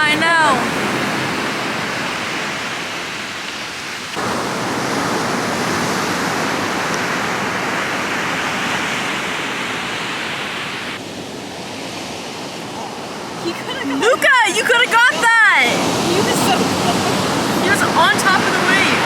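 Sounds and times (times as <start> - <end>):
ocean waves rushing: 0.0 - 19.0.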